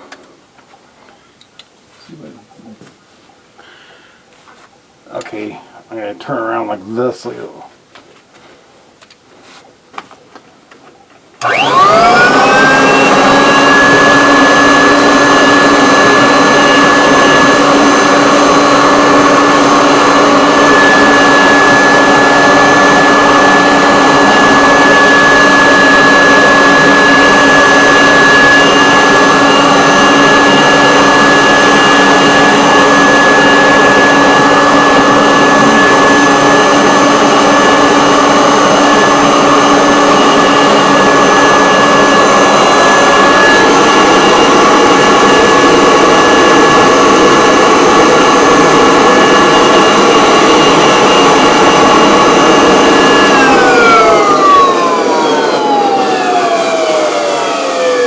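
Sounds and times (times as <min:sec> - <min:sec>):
vacuum cleaner motor whine: 0:11.4 - 0:58.0.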